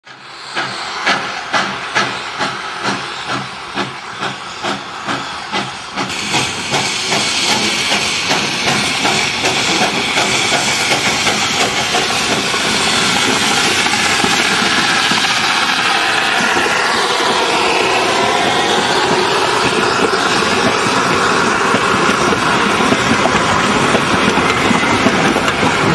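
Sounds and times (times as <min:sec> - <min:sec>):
loud steam hiss: 0:00.1 - 0:25.9
steam locomotive exhaust chuffs: 0:00.1 - 0:25.9.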